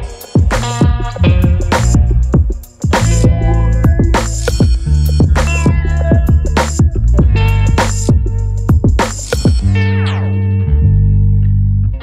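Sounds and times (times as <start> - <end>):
background music without drums: 0.0 - 12.0.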